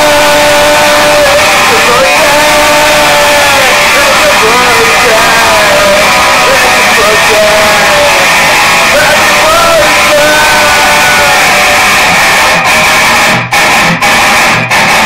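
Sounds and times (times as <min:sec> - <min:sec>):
loud music with wavering melody: 0:00.0 - 0:15.0.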